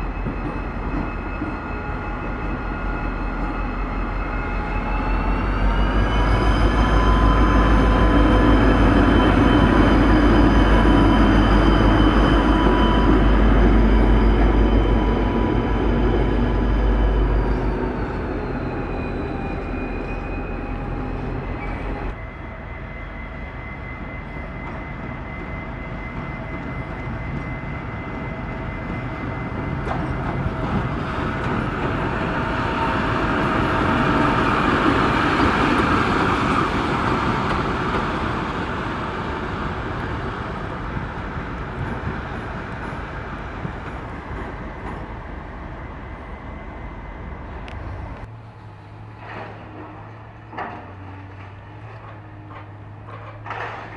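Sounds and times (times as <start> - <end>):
train engine hum: 0.0 - 53.9
train wheels rushing on rails: 0.0 - 53.9.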